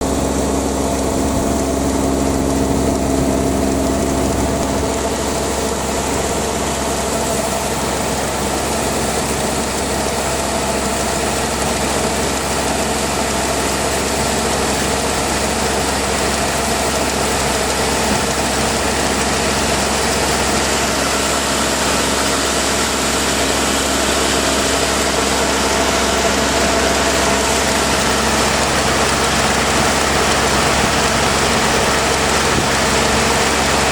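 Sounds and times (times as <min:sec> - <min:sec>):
combine harvester engine droning: 0:00.0 - 0:33.9.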